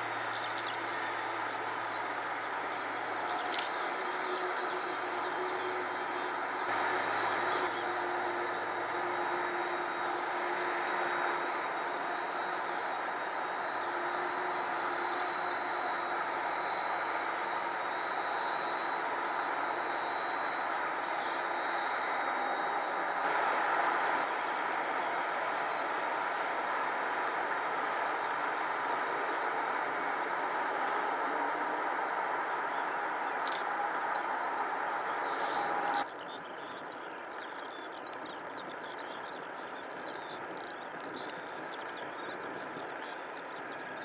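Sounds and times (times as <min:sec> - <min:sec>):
faint high whine: 0:00.0 - 0:44.0
jet engines running: 0:00.0 - 0:44.0.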